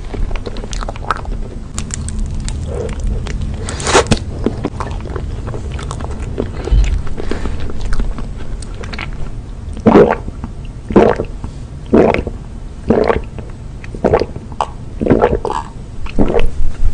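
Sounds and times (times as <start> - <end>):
person gulping milk: 0.0 - 9.2, 9.8 - 12.3, 12.9 - 16.5.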